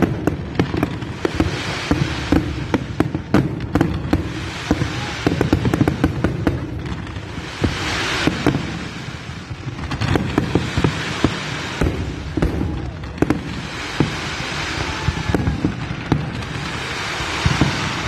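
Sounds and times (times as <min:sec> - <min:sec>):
fireworks bangs and pops: 0:00.0 - 0:18.0
fireworks crackling hiss: 0:00.0 - 0:18.0.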